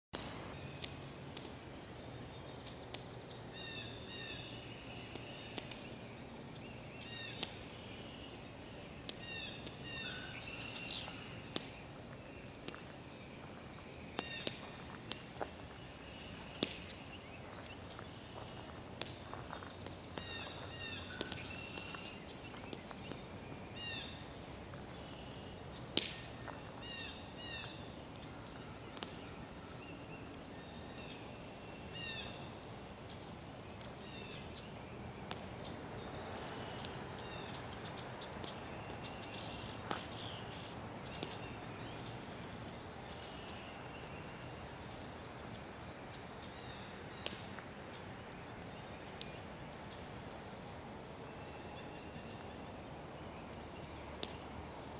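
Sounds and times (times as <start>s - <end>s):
campfire popping: 0.2s - 54.9s.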